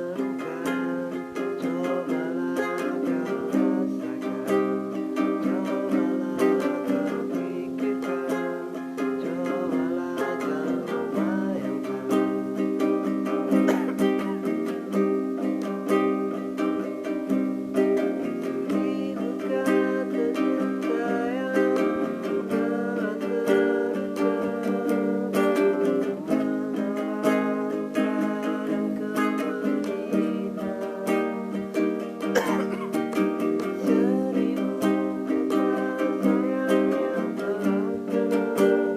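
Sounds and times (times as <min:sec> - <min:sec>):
acoustic string instrument strumming: 0:00.0 - 0:38.9.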